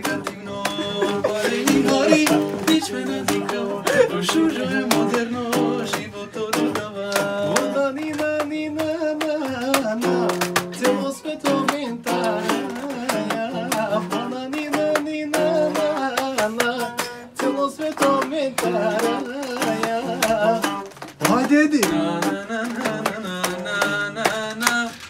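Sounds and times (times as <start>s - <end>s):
man singing: 0.0s - 25.0s
small guitar strummed: 0.0s - 25.0s.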